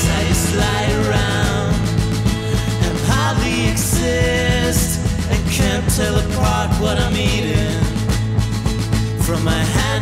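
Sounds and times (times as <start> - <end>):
song with drum beat and cymbals: 0.0 - 10.0.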